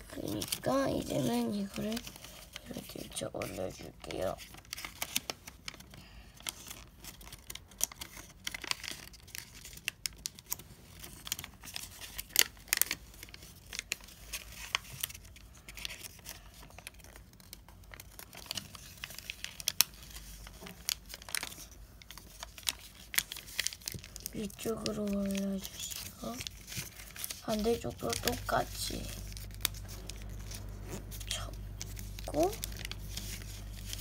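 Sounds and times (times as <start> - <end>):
paper crackling as creased: 0.0 - 34.0
paper crinkling and rustling: 0.0 - 34.0.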